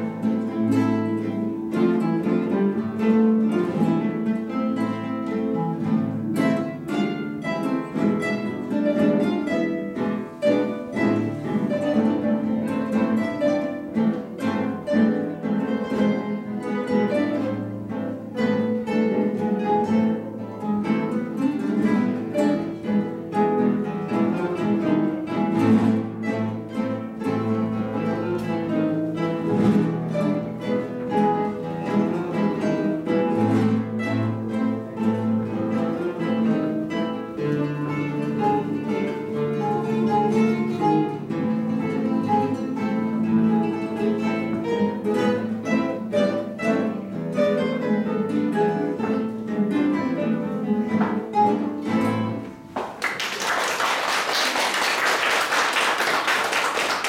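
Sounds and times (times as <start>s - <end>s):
guitar ensemble playing: 0.0s - 57.0s.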